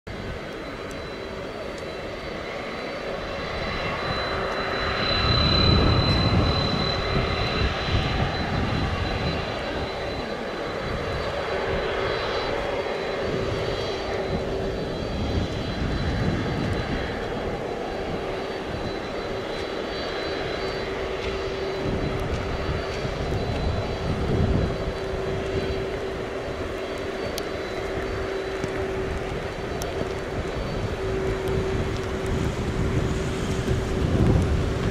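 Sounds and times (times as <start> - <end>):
jet engines whine and rumble: 0.0 - 34.9.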